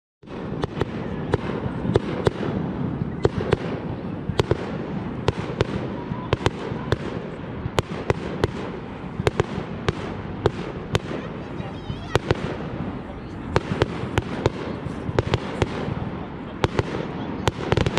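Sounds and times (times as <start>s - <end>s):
fireworks crackle and rumble: 0.2s - 17.9s
fireworks cracks and bangs: 0.2s - 17.9s.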